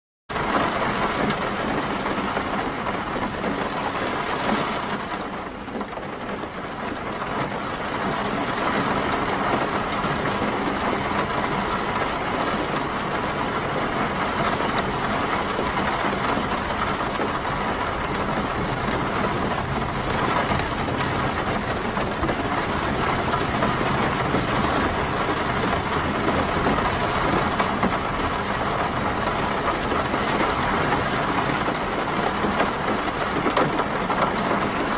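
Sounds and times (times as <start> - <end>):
rain on a car: 0.3 - 34.9.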